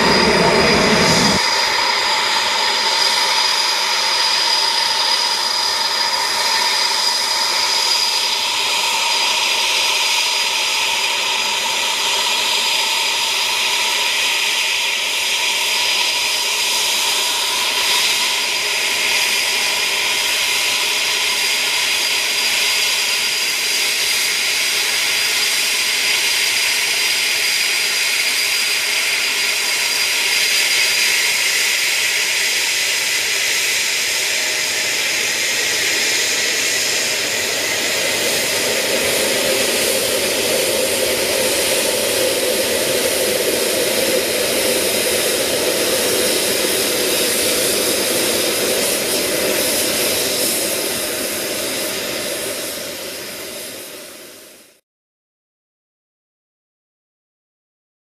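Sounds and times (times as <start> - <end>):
jet engines idling: 0.0 - 54.4.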